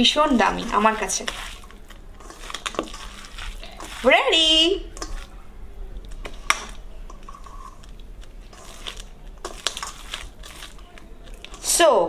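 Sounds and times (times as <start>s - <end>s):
rice squishing and rustling: 0.0s - 12.0s.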